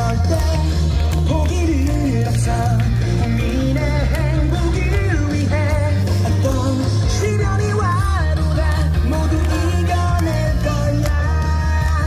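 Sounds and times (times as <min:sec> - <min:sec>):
song with singer and heavy bass: 0:00.0 - 0:12.0.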